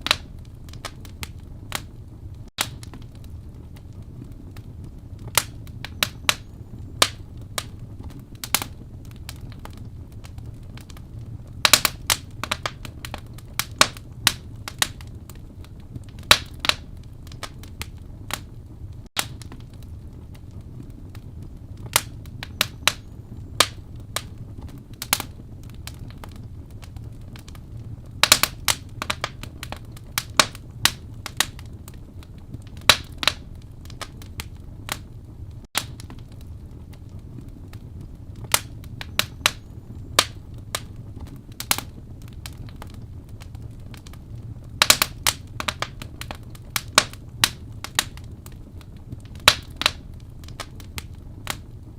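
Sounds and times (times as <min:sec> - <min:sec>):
logs crackling and popping: 0:00.0 - 0:51.9
low rumble of flame: 0:00.0 - 0:51.9.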